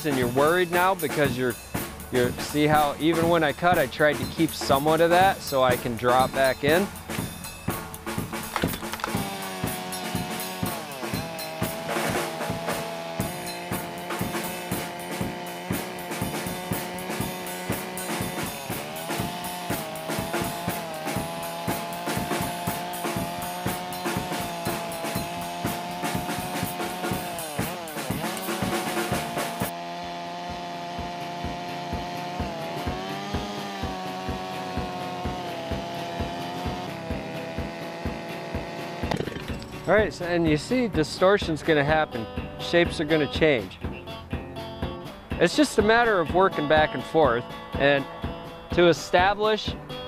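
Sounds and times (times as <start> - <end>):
chainsaw cutting wood: 0.0 - 41.6.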